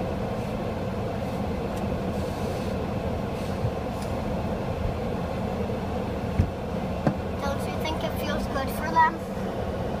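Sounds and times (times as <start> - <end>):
low rumble inside car: 0.0 - 10.0.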